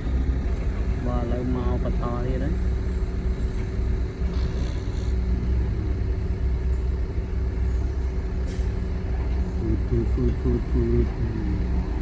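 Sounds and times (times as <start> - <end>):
heavy machinery diesel engine droning: 0.0 - 12.0.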